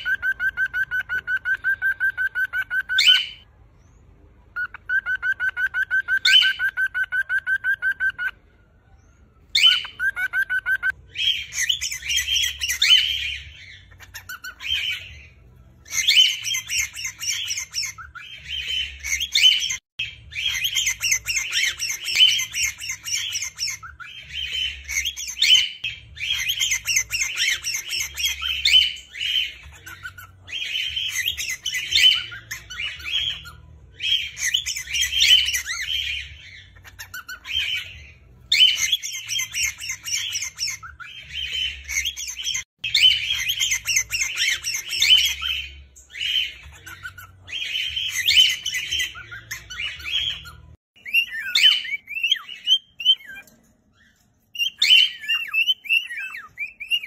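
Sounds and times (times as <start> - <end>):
cockatiels chattering and squawking: 0.0 - 3.5, 4.5 - 8.4, 9.5 - 57.0.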